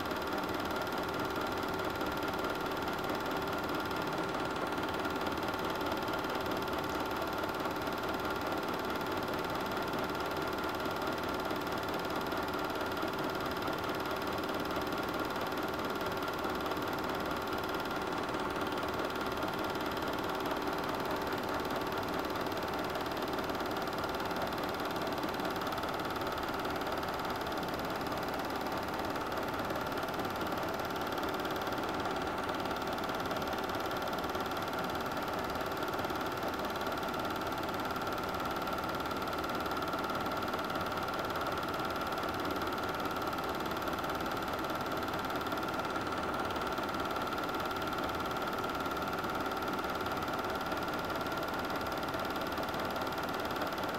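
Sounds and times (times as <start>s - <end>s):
film projector whirring: 0.0s - 53.9s.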